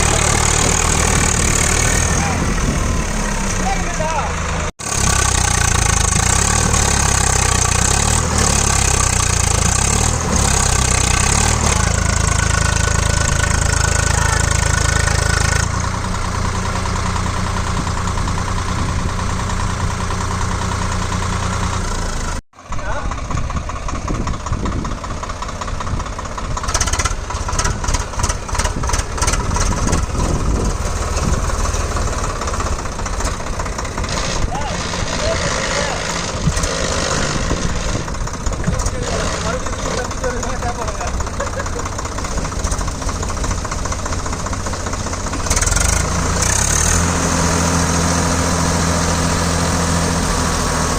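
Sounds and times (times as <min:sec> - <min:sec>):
tractor engines running: 0:00.0 - 0:50.9.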